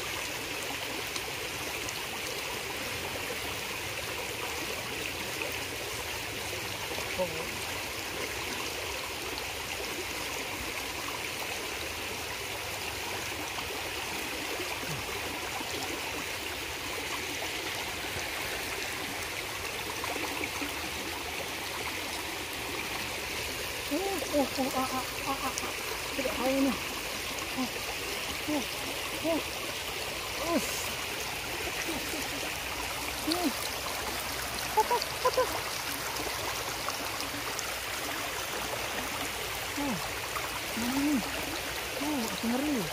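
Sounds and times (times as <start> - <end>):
river water over rocks: 0.0 - 42.9.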